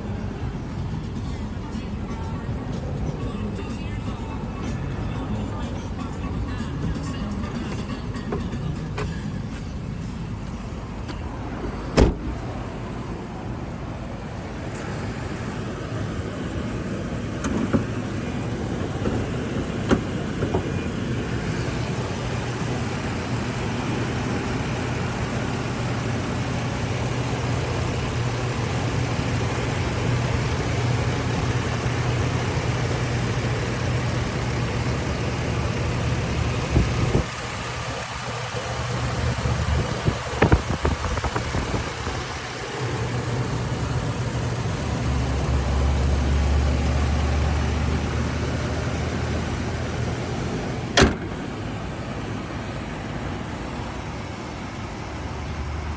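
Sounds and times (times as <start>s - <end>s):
vehicle engine idling: 0.0s - 55.9s.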